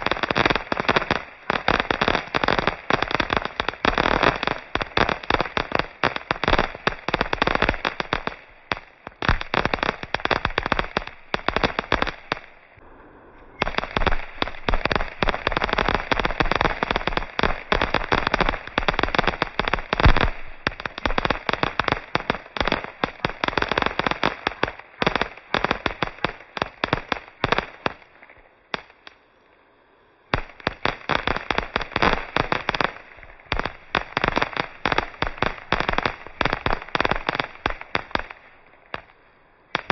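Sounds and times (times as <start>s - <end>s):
fireworks crackling bangs and pops: 0.0s - 12.8s, 13.6s - 29.3s, 30.3s - 39.9s.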